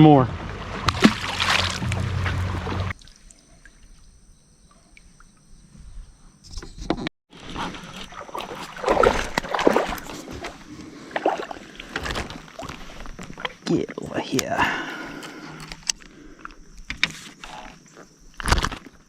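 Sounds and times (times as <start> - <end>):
water sloshing against kayak hull: 0.3 - 5.1, 7.3 - 19.0.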